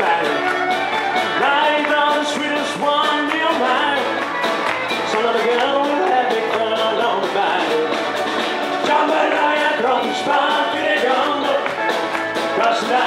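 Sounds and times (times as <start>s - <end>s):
country band playing: 0.0s - 13.0s
fiddle: 0.0s - 13.0s.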